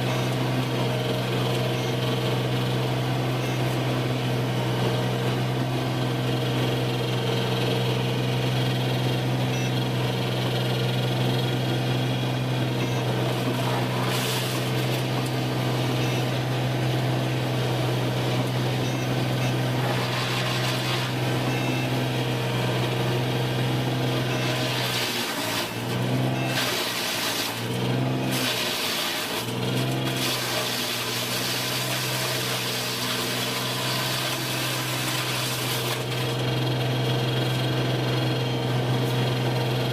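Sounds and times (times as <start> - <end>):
machinery humming: 0.0 - 39.9.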